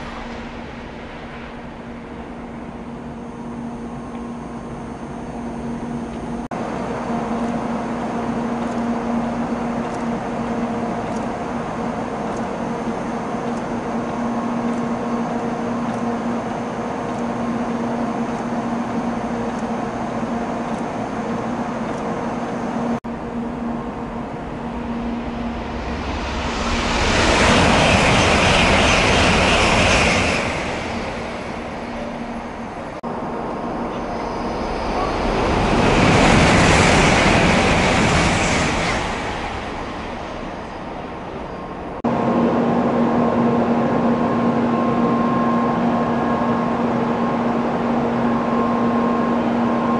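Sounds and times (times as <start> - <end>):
high-speed train rushing past: 0.0 - 49.9
steady station hum with tones: 0.0 - 49.9.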